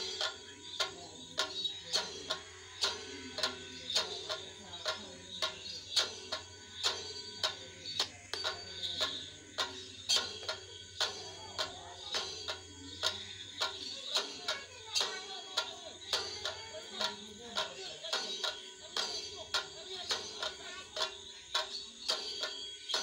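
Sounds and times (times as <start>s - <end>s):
drums beating a steady rhythm: 0.0s - 23.0s.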